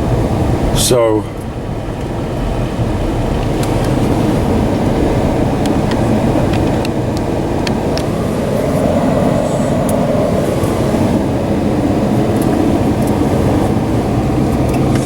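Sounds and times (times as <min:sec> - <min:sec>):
pickup truck driving on snow: 0:00.0 - 0:15.0.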